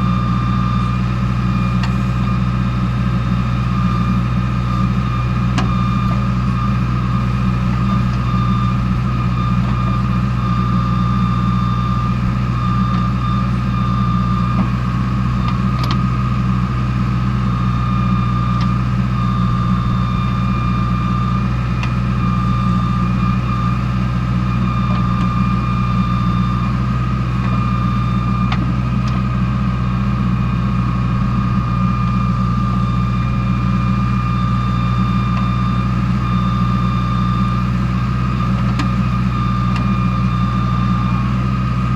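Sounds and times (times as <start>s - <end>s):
diesel engine running at low revs: 0.0s - 41.9s.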